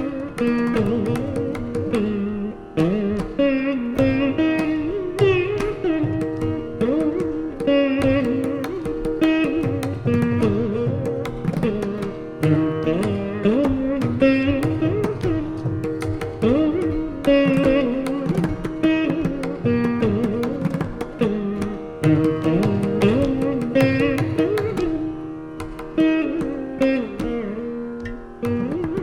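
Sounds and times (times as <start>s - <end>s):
plucked veena with bending notes: 0.0s - 29.0s.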